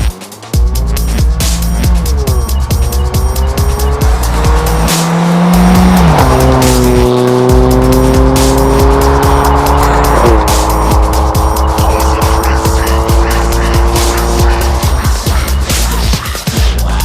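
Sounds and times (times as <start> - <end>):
car engine and exhaust accelerating: 0.0 - 17.0
electronic dance music: 0.0 - 17.0.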